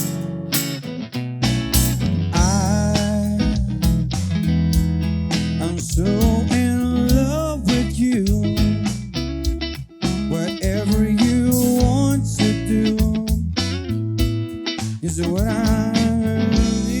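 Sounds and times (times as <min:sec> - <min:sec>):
wavering guitar melody: 0:00.0 - 0:17.0
steady bass notes: 0:01.4 - 0:17.0.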